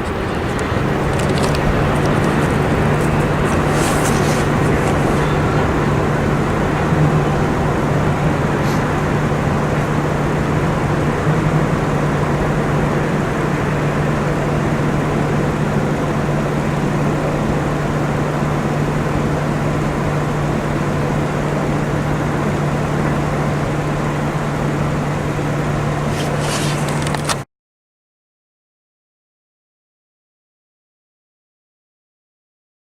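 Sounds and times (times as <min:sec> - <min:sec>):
constant low hum: 0:00.0 - 0:27.4
loud vehicle rumble: 0:00.0 - 0:27.4.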